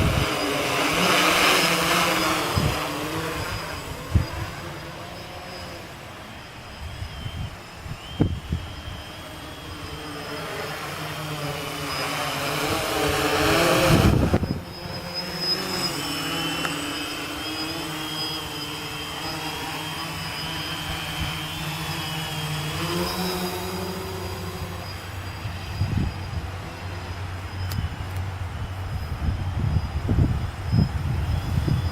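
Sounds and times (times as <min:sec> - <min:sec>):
quadcopter buzzing whine: 0:00.0 - 0:31.9.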